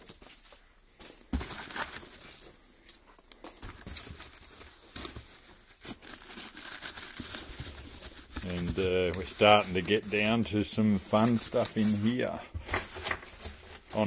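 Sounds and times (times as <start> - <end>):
packing material rustling: 0.0 - 14.0.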